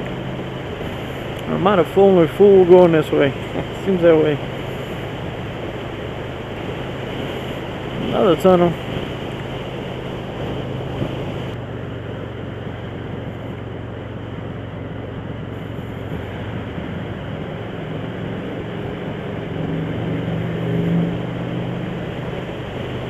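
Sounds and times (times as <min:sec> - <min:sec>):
motorcycle engine running: 0:00.0 - 0:20.4
wind and road noise: 0:00.0 - 0:23.0.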